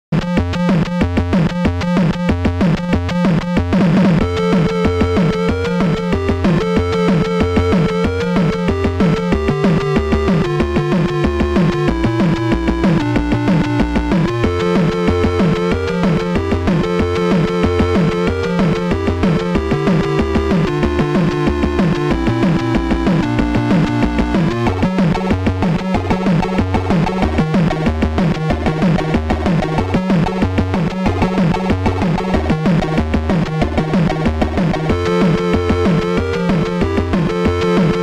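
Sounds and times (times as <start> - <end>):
synthesizer beat: 0.2 - 38.0
held synth melody: 2.8 - 38.0.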